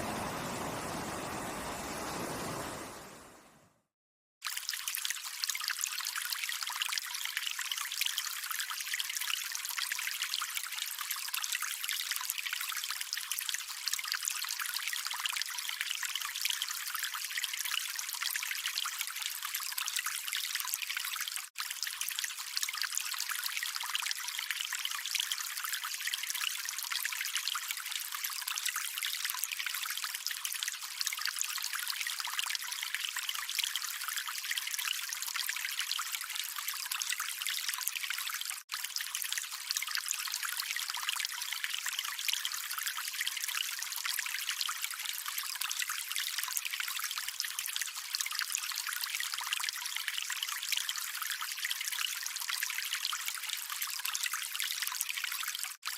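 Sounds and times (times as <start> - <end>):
water trickling and splashing: 0.0 - 3.7, 4.4 - 55.9.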